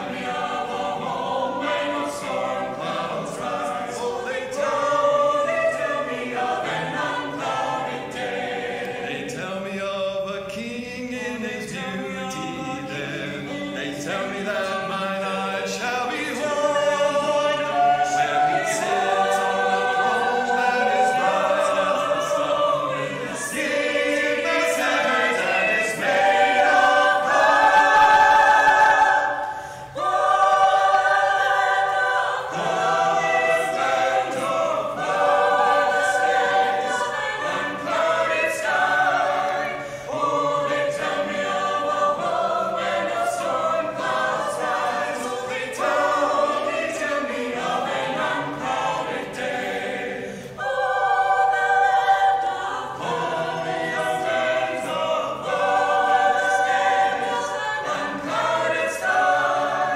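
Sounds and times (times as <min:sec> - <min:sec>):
choir singing unaccompanied: 0:00.0 - 0:59.9.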